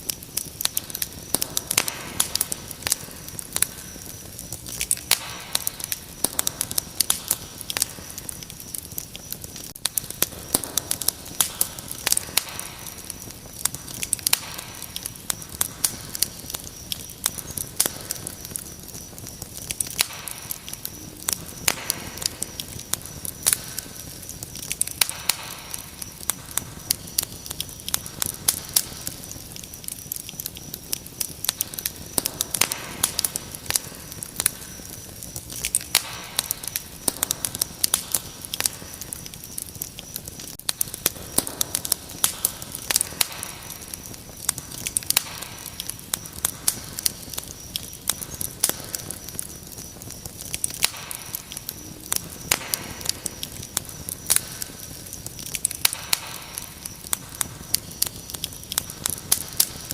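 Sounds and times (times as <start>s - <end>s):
crickets chirping: 0.0s - 59.9s
wood fire crackling and popping: 0.0s - 59.9s.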